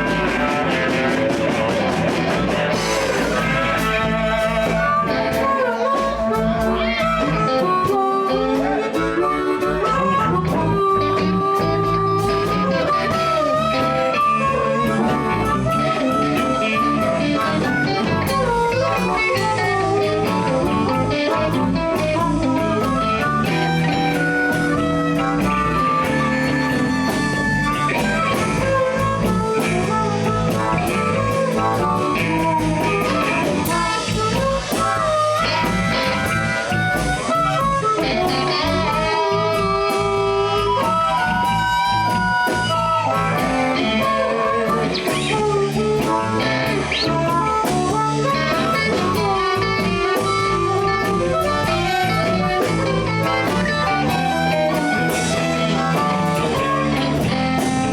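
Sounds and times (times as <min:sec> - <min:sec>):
blues band playing: 0:00.0 - 0:57.9
harmonica lead lines: 0:00.0 - 0:57.9.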